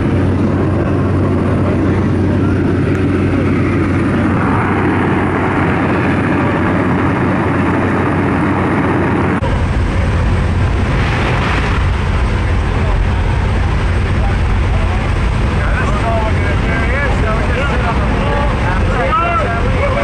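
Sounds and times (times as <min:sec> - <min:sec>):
rushing air noise: 0:00.0 - 0:18.9
propeller aircraft engine droning: 0:00.0 - 0:20.0.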